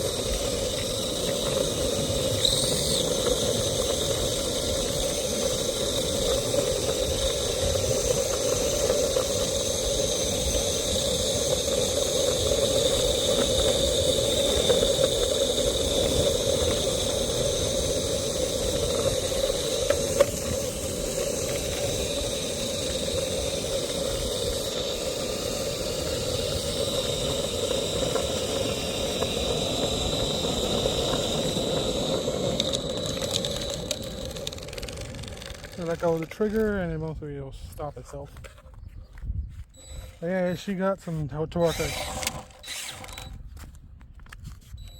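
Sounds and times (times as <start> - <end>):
electric motor whine: 0.0 - 36.6, 39.8 - 40.7, 41.6 - 43.7
wheels rumbling on road: 0.0 - 39.0.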